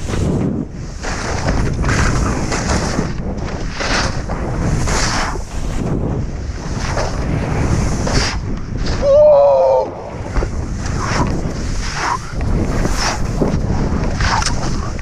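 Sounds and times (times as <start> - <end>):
hissing surges of snow: 0.0 - 15.0
wind rushing over microphone: 0.0 - 15.0.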